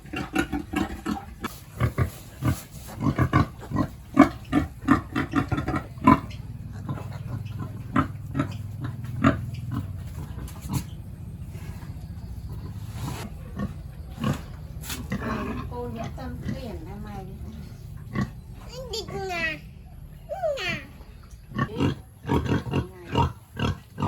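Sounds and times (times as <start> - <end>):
pigs grunting: 0.0 - 19.5, 20.5 - 24.0
steady low hum: 0.0 - 24.0.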